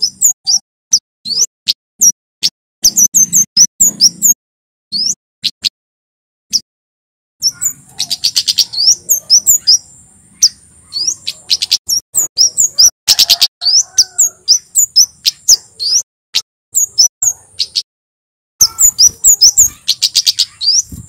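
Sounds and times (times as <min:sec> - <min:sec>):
bird singing high chirps: 0:00.0 - 0:02.2, 0:02.8 - 0:05.7, 0:07.4 - 0:16.1, 0:16.7 - 0:17.9, 0:18.6 - 0:21.0.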